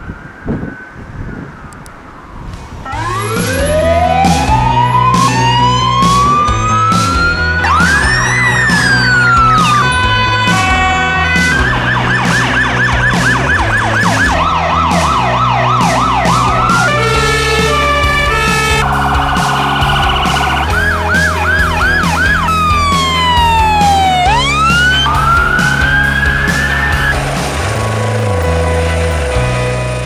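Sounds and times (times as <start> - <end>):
emergency vehicle sirens: 0.0 - 30.0
background music with beat: 2.9 - 30.0.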